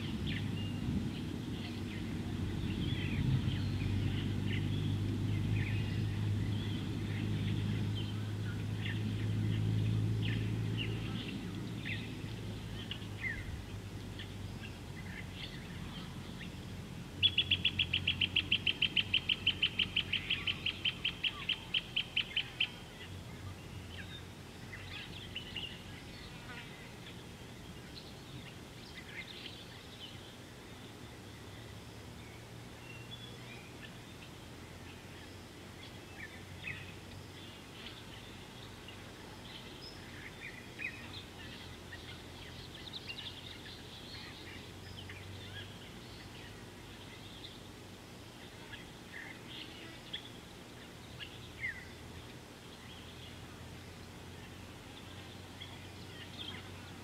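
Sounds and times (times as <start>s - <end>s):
birds chirping: 0.0s - 57.0s
steady low hum: 0.0s - 57.0s.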